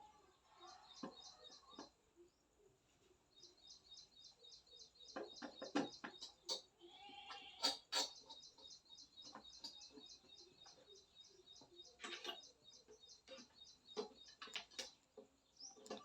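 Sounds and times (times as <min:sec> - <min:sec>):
faint bird chirping: 0:00.0 - 0:16.0.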